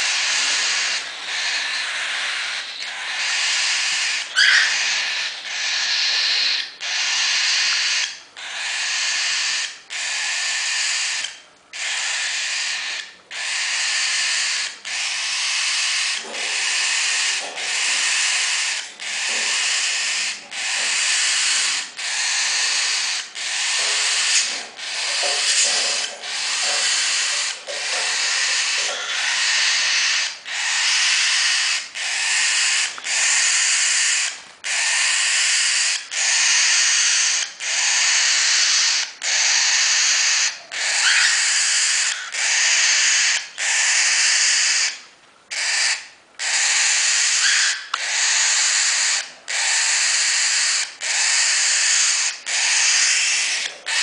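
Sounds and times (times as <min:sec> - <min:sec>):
chicks raspy begging calls: 0:00.0 - 0:54.0.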